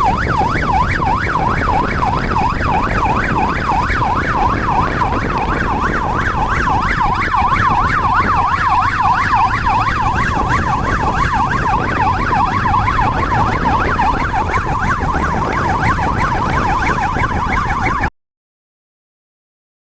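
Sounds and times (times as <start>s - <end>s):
engine and road rumble: 0.0s - 18.1s
police siren yelping: 0.0s - 18.1s.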